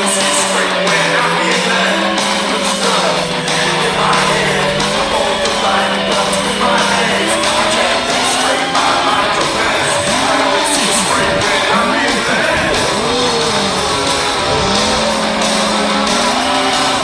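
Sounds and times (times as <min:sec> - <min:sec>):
rock song with singing: 0:00.0 - 0:17.0.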